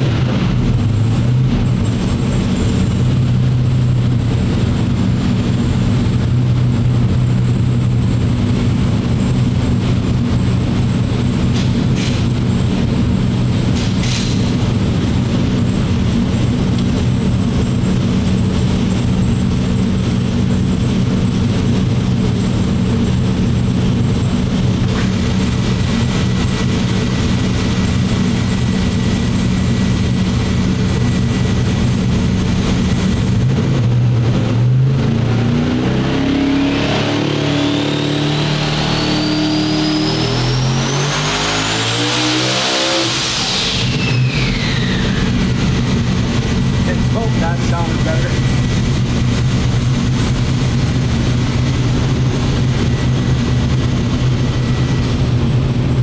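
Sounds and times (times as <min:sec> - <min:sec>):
race engine low rumble: 0:00.0 - 0:56.0.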